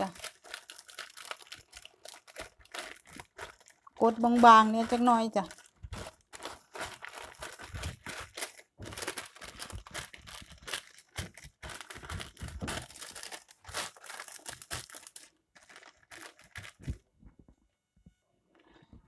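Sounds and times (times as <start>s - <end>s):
paper crinkling and rustling: 0.0s - 17.0s.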